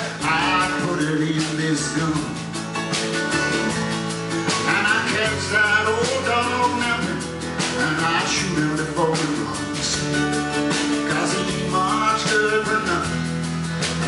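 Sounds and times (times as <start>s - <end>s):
acoustic guitar: 0.0s - 14.0s
live country-rock band: 0.0s - 14.0s.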